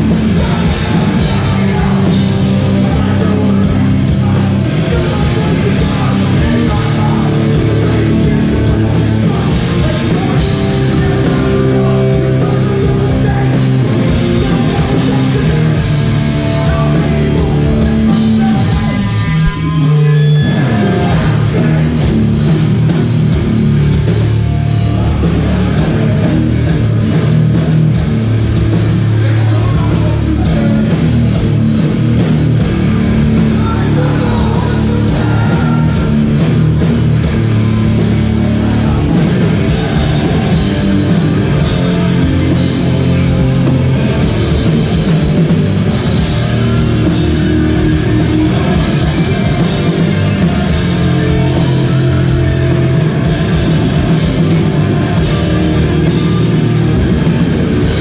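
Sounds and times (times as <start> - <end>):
hardcore band playing loud: 0.0 - 58.0.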